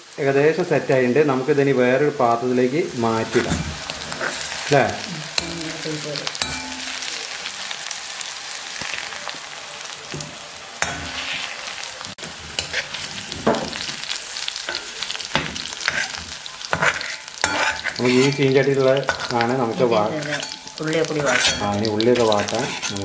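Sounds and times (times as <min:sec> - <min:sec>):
vegetables sizzling in oil: 0:00.0 - 0:23.0
spoon scraping pan: 0:02.8 - 0:23.0.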